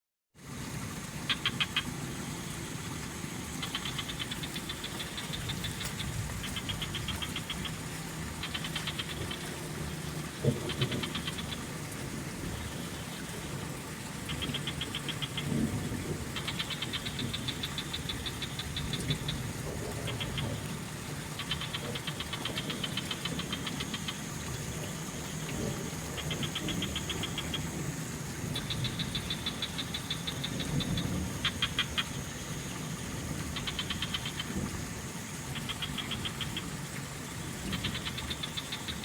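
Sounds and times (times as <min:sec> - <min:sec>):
frogs trilling: 0:01.1 - 0:39.0.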